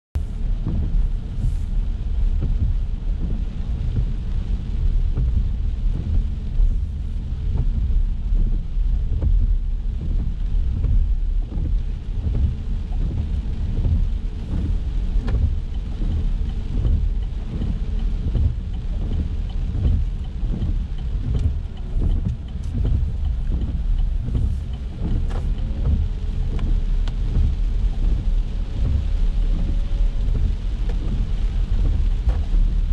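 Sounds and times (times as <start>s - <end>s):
rain pattering on a car: 0.2s - 32.9s
tyres rumbling on wet road: 0.2s - 32.9s
faint regular ticking: 0.4s - 32.9s.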